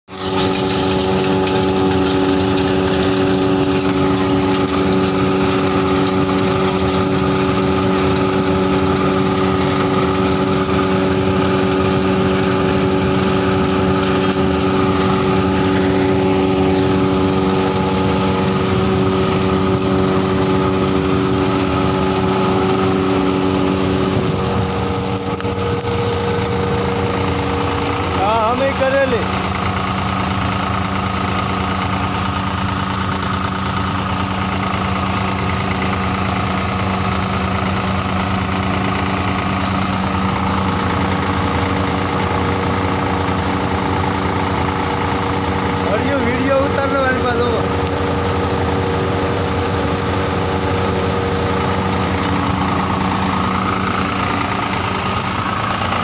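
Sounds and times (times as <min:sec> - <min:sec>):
cleaning machine motor humming: 0:00.1 - 0:56.0.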